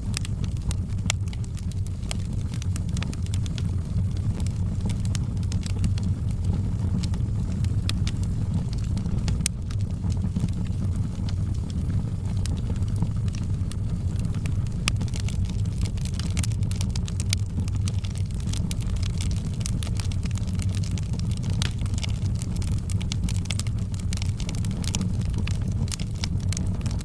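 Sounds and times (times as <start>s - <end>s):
low fire rumble: 0.0s - 27.0s
wood fire crackling and popping: 0.0s - 27.0s.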